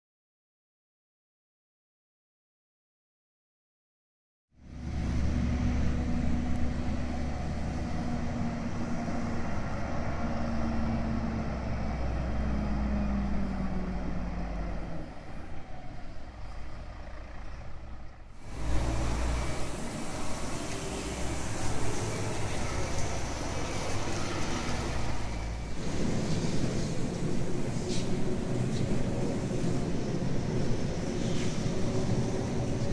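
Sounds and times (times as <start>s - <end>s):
diesel truck engine rumbling: 4.6s - 32.9s.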